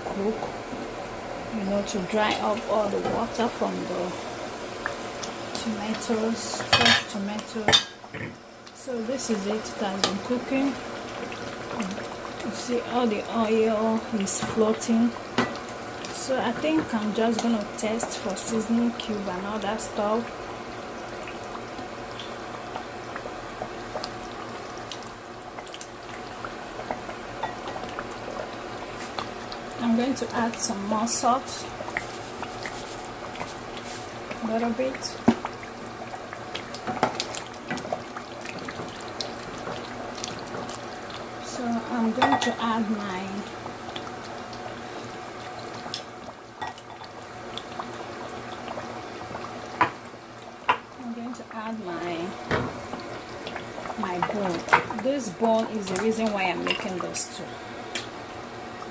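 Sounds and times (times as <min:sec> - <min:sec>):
stew bubbling with small pops: 0:04.8 - 0:06.0, 0:06.6 - 0:12.6, 0:13.2 - 0:30.7, 0:31.7 - 0:57.2, 0:57.9 - 0:58.9.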